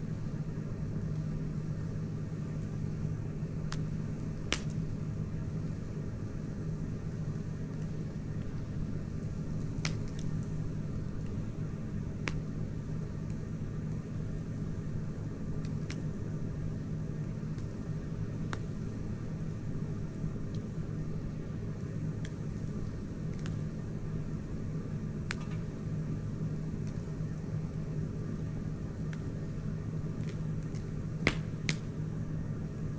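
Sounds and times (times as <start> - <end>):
campfire burning: 0.0 - 32.9
fire crackles and pops: 0.1 - 32.9.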